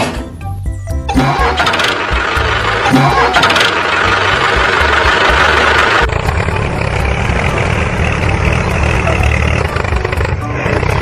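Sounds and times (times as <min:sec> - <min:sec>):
engine running with low rumble: 0:01.1 - 0:11.0.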